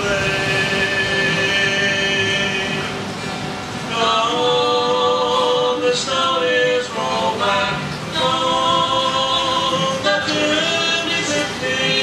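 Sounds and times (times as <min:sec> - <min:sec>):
voices singing a worship song: 0:00.0 - 0:12.0.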